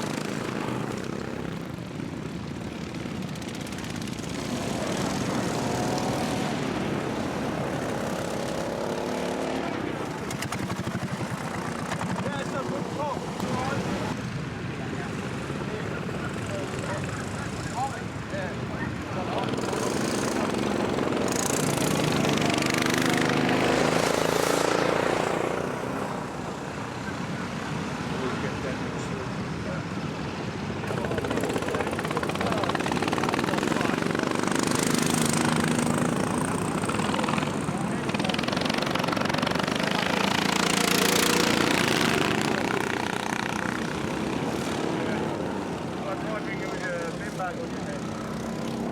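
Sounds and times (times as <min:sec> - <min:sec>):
racing lawnmower engine passing: 0:00.0 - 0:48.9.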